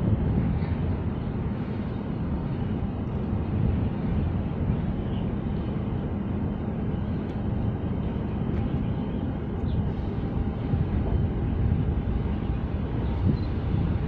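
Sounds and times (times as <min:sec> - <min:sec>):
ship machinery rumble: 0:00.0 - 0:14.0.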